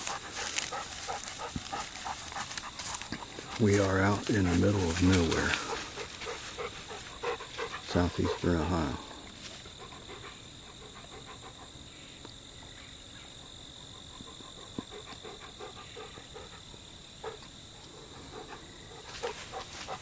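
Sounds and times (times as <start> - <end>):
faint ticks and rustles: 0.0 - 20.0
insects droning: 0.0 - 20.0.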